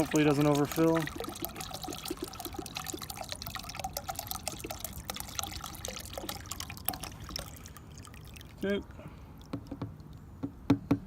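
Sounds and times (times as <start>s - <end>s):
liquid trickling into a metal can: 0.0s - 10.3s
small drips and plinks: 0.0s - 10.5s.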